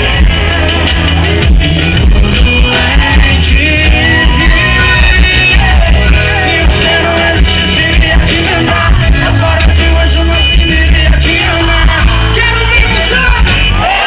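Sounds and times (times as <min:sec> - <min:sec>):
live band playing: 0:00.0 - 0:14.0
man singing lead: 0:00.0 - 0:14.0.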